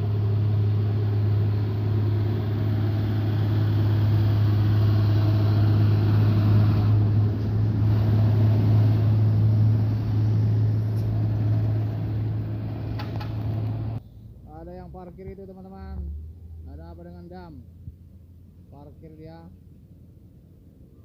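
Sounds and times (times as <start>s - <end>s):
diesel trucks passing: 0.0s - 19.0s.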